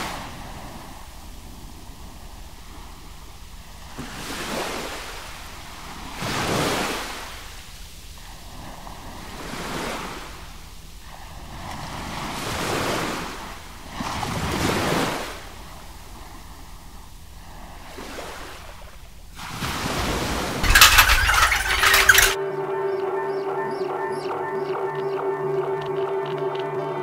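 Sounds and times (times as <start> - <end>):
ocean waves breaking: 0.0 - 22.4.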